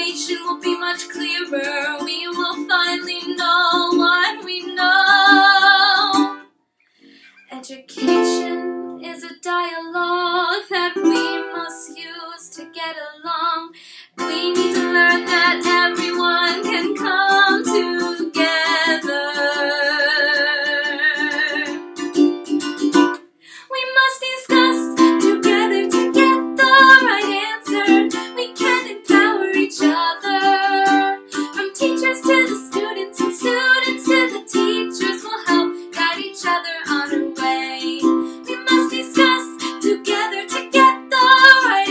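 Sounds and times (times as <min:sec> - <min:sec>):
woman singing: 0:00.0 - 0:06.4, 0:07.5 - 0:21.9, 0:23.6 - 0:41.9
ukulele strumming: 0:00.0 - 0:06.5, 0:07.6 - 0:09.8, 0:10.4 - 0:13.0, 0:14.2 - 0:41.9.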